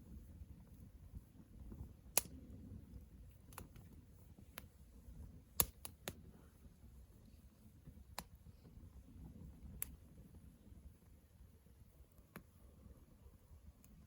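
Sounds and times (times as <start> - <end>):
wood fire crackling and popping: 0.0 - 6.9, 7.6 - 12.6
faint low fire rumble: 0.0 - 14.0.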